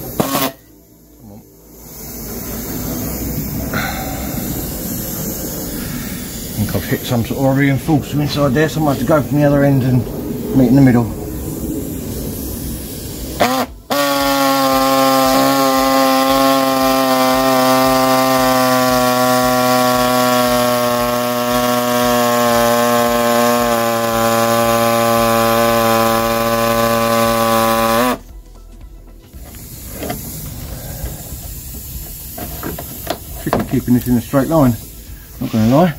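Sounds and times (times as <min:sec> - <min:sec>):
air saw cutting sheet steel: 0:00.0 - 0:28.3, 0:29.4 - 0:35.9.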